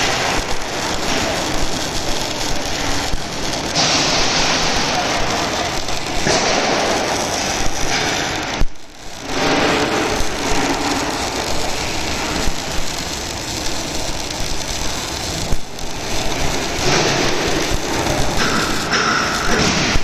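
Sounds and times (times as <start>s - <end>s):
arc welding crackling: 0.0s - 20.0s.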